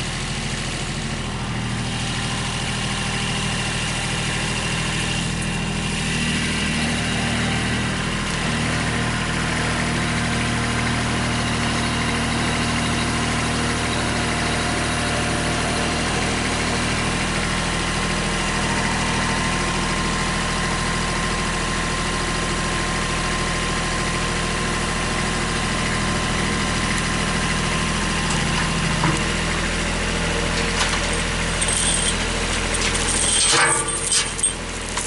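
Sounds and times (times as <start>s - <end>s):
machinery engine idling: 0.0s - 35.0s.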